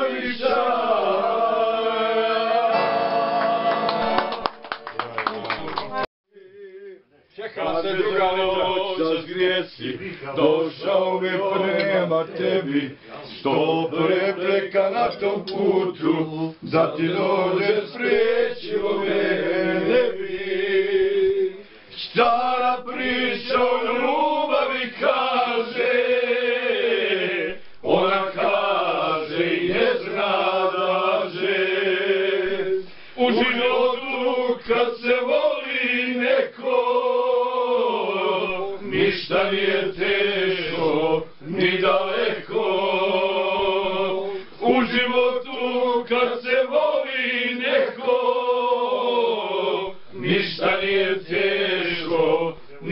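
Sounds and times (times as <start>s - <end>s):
men singing without instruments: 0.0s - 4.2s, 6.3s - 52.9s.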